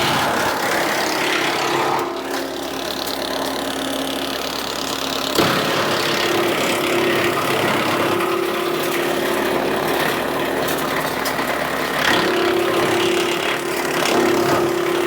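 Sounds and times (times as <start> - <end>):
diesel tractor engine running: 0.0 - 15.0
wood chipper humming: 0.0 - 15.0.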